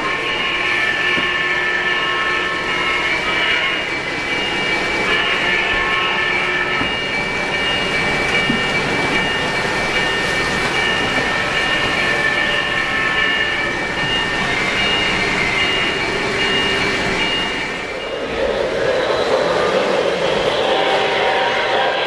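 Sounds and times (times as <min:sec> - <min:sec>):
model train rumbling on track: 0:00.0 - 0:22.0.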